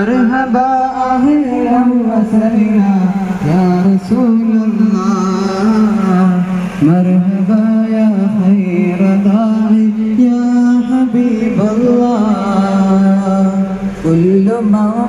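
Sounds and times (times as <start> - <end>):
devotional chant over loudspeakers: 0.0 - 15.0.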